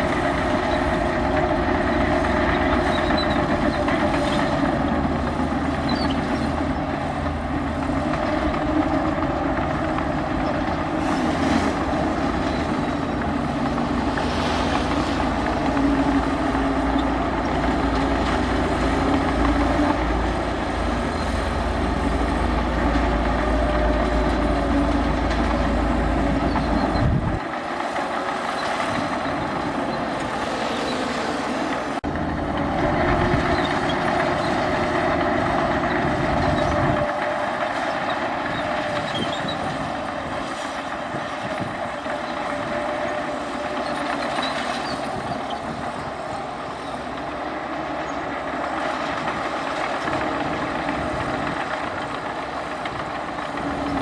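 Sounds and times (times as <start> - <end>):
heavy diesel machinery engine: 0.0 - 54.0.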